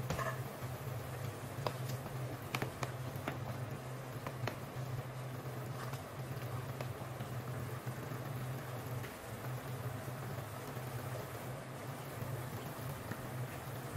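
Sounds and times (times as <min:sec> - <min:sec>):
sauce bubbling in a pan: 0:00.0 - 0:13.9
steady low hum: 0:00.0 - 0:13.9.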